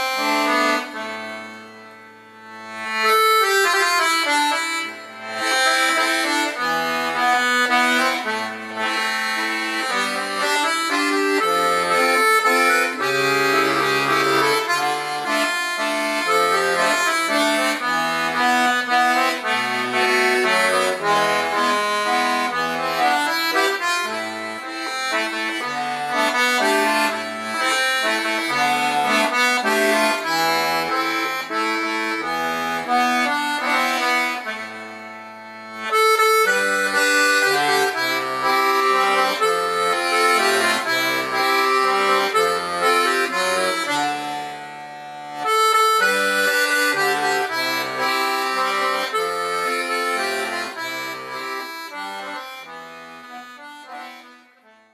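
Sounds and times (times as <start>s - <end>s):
instrumental background music: 0.0s - 54.9s.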